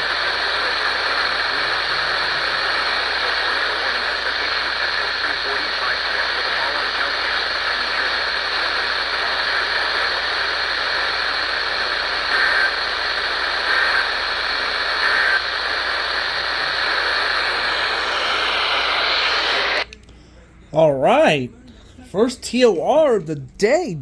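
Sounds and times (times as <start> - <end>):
radio static hiss: 0.0 - 20.0, 20.7 - 21.5.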